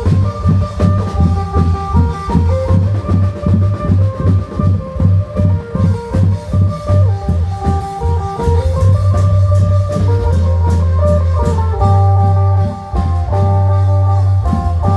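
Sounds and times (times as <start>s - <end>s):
drum strokes: 0.0s - 14.9s.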